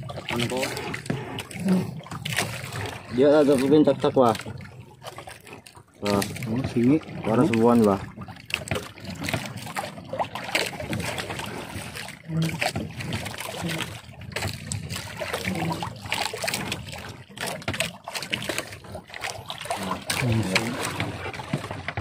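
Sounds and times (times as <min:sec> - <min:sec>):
water sloshing and trickling: 0:00.0 - 0:22.0.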